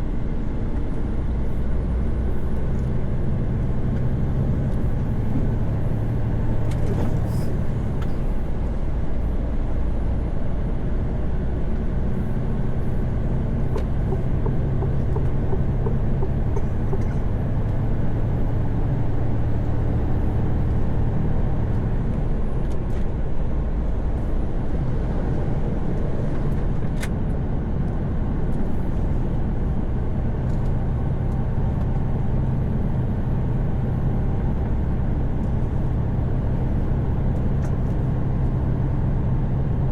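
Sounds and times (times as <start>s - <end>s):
diesel engine drone: 0.0s - 39.9s
tyre and road noise: 0.0s - 39.9s.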